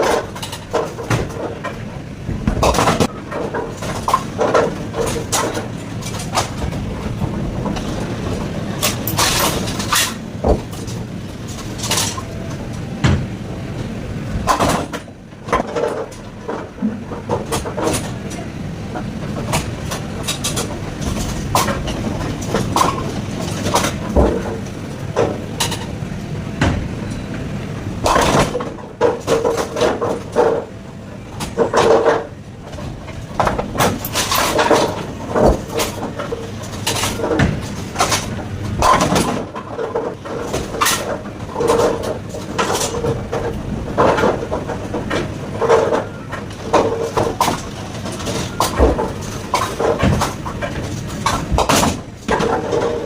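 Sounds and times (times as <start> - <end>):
bowling pins clattering: 0.0 - 53.0.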